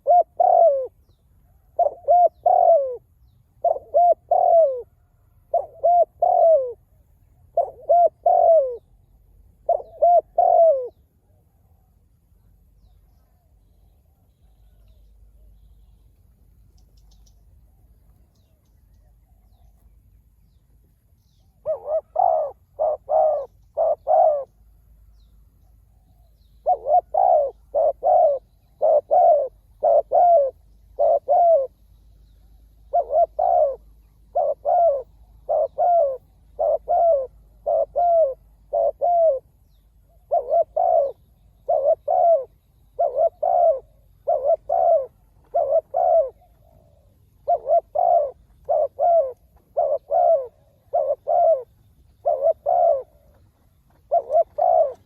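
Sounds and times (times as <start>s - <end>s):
dove cooing: 0.0s - 11.4s, 21.2s - 24.6s, 25.6s - 55.0s.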